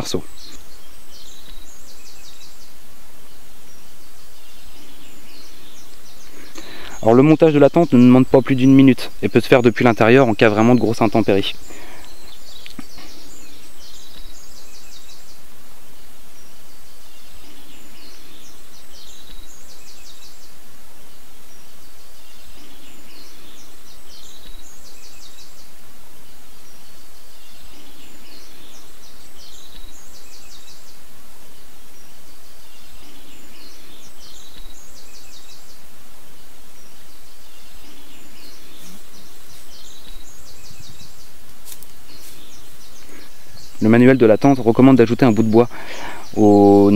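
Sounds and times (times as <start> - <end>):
outdoor background noise: 0.0 - 46.9
songbird trilling: 0.0 - 46.9.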